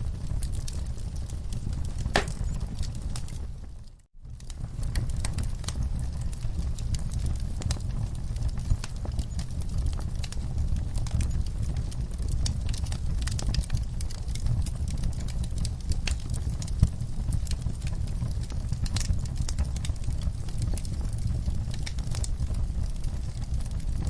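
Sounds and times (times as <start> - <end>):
low rumble of burning logs: 0.0 - 24.0
wood fire crackling: 0.0 - 24.0.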